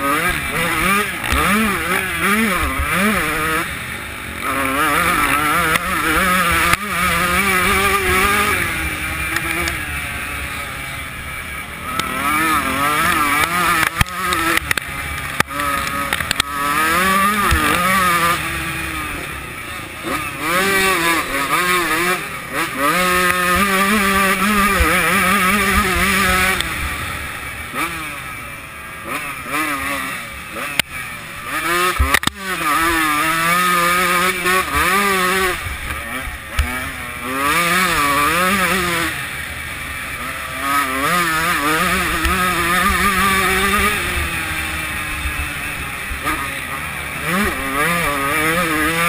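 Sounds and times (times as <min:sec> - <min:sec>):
motocross bike engine revving: 0:00.0 - 0:49.0.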